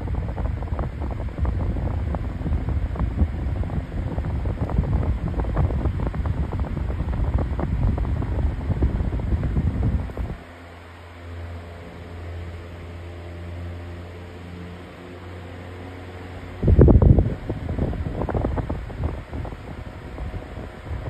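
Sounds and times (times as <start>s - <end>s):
fan wind buffeting microphone: 0.0s - 21.0s.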